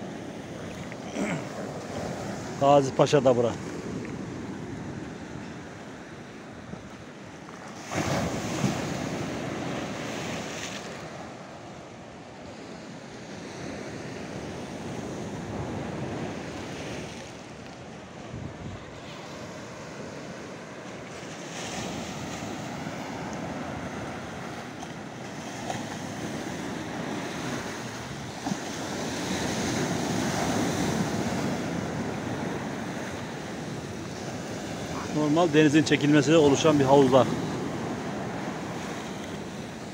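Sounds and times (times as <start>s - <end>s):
sea waves washing over rocky shore: 0.0s - 39.9s.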